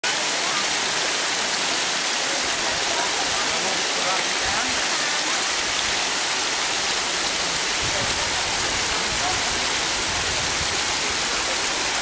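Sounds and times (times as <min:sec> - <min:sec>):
waterfall rushing onto rocks: 0:00.0 - 0:12.0.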